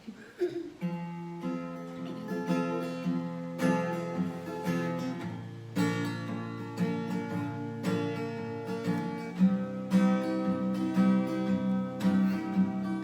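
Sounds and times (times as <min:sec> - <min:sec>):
acoustic guitar strumming chords: 0:00.8 - 0:13.0.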